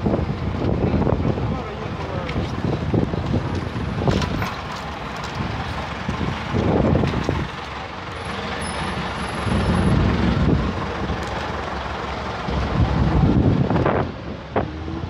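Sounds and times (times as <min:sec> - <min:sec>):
wind buffeting microphone: 0:00.0 - 0:08.1, 0:09.3 - 0:11.7, 0:12.4 - 0:15.0
vehicles running nearby: 0:00.0 - 0:15.0.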